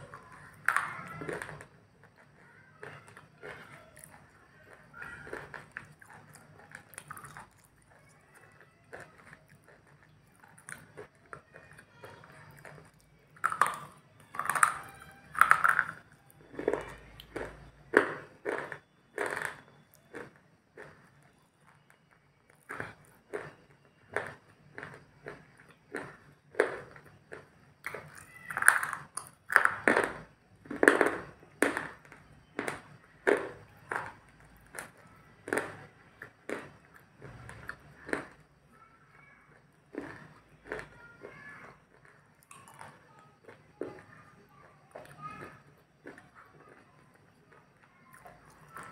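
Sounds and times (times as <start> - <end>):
person crunching crisp food: 0.0 - 21.9, 22.5 - 44.2, 44.9 - 48.9.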